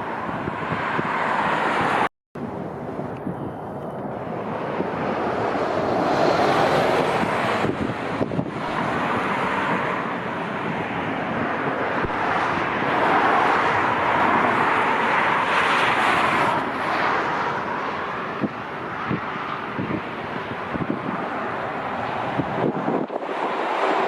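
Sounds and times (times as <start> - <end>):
jet engine noise: 0.0 - 24.0
wind buffeting microphone: 0.0 - 24.0.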